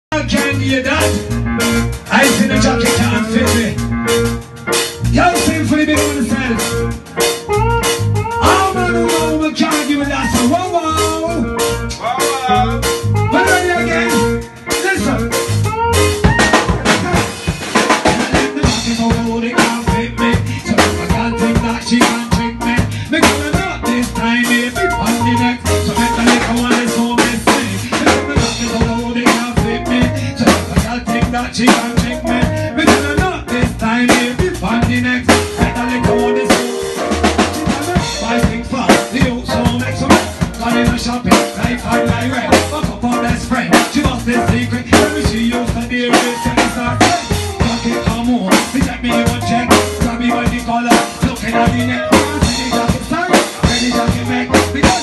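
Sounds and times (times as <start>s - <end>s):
bass guitar line: 0.1s - 55.0s
drum kit beat: 0.1s - 55.0s
live band playing: 0.1s - 55.0s.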